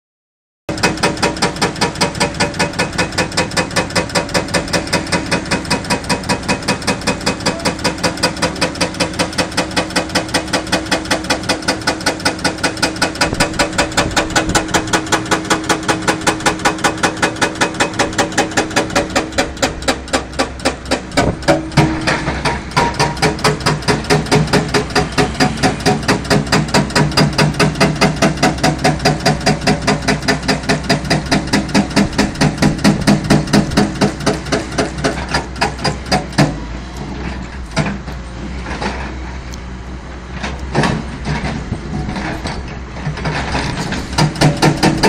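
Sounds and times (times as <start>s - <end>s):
hydraulic breaker hammering rock: 0.7s - 36.7s, 40.6s - 45.0s
excavator engine hum: 0.7s - 45.0s.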